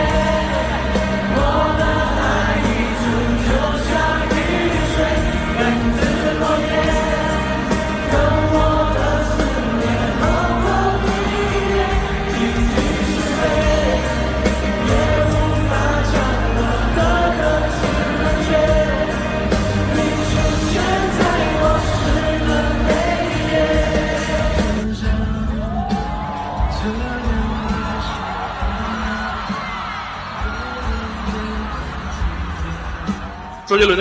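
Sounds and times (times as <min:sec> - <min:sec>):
audience singing along: 0:00.0 - 0:33.4
live pop band playing: 0:00.0 - 0:34.0.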